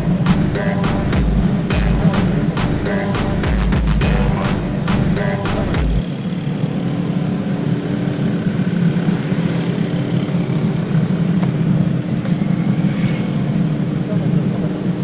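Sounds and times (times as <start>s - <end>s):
vehicle driving drone: 0.0s - 15.0s.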